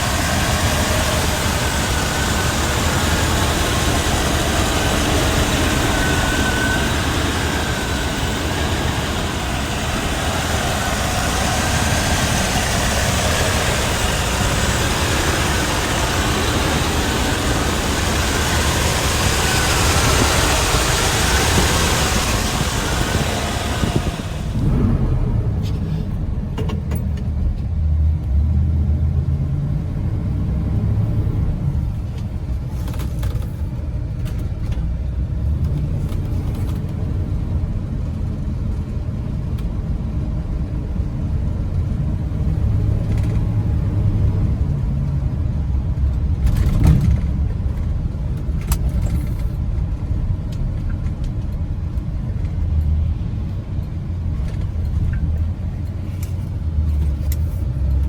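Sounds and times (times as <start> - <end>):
truck engine rumbling: 0.0 - 58.0.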